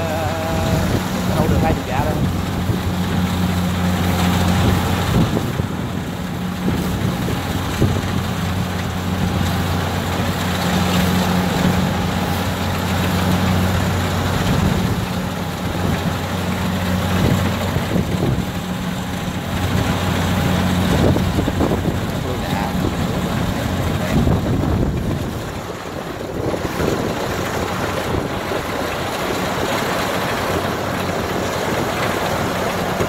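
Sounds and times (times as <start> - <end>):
combine harvester mechanical noise: 0.0 - 33.0
diesel engine droning under load: 0.0 - 33.0.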